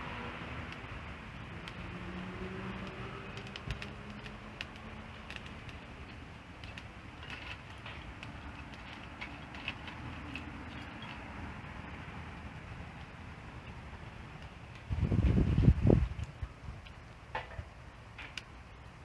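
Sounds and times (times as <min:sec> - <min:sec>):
bonfire crackling and popping: 0:00.0 - 0:19.0
fire rushing: 0:00.0 - 0:19.0.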